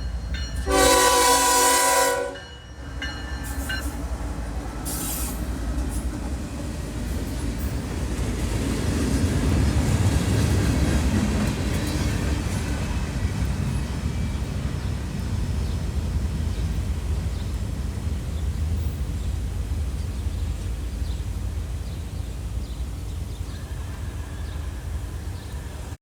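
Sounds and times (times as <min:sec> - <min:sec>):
train rolling past: 0:00.0 - 0:26.0.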